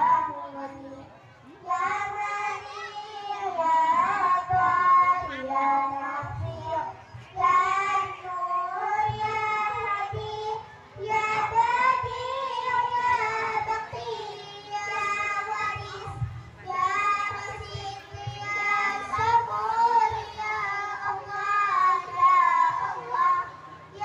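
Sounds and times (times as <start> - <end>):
child singing: 0.0 - 24.0.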